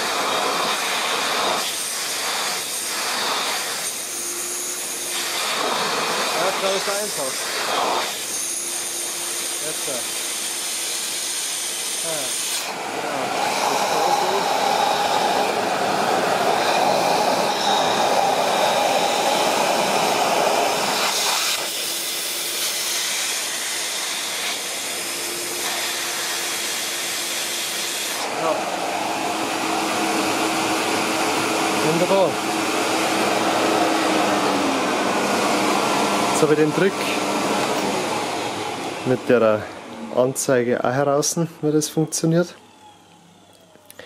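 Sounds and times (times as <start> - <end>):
vacuum cleaner motor running: 0.0 - 44.0.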